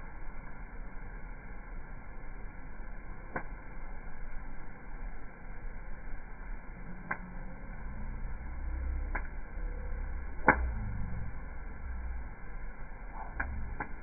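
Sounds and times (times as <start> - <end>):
campfire low rumble: 0.0 - 14.0.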